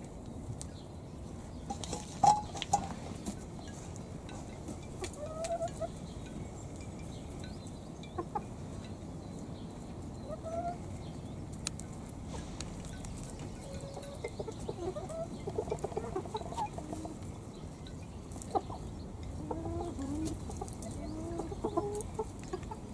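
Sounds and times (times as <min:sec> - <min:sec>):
chickens clucking: 0:00.5 - 0:22.9.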